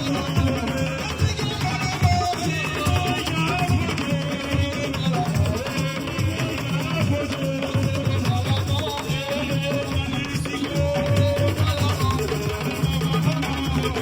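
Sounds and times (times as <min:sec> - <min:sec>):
drum and percussion rhythm: 0:00.0 - 0:14.0.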